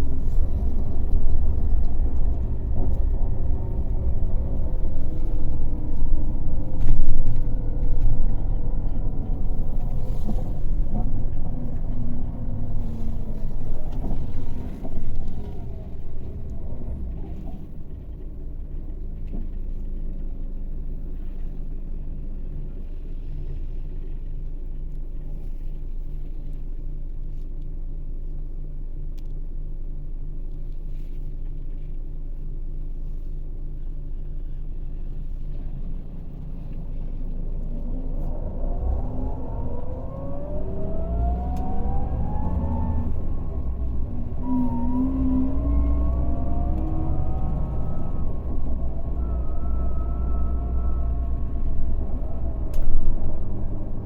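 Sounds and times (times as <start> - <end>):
diesel bus engine running: 0.0 - 54.0.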